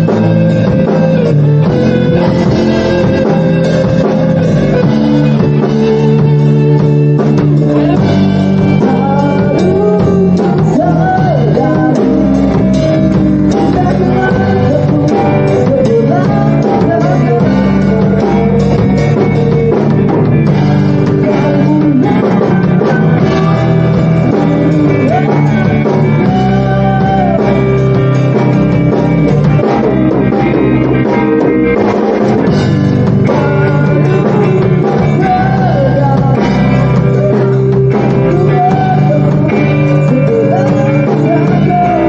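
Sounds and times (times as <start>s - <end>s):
rock music with singing: 0.0s - 42.0s.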